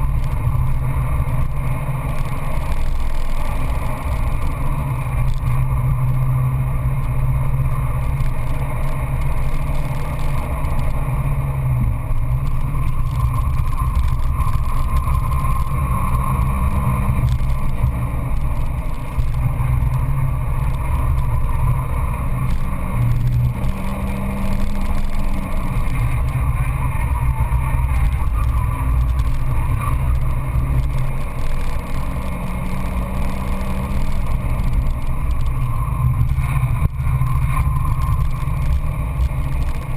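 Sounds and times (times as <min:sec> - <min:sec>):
car engine revving: 0:00.0 - 0:39.9
wind and road noise: 0:00.0 - 0:39.9.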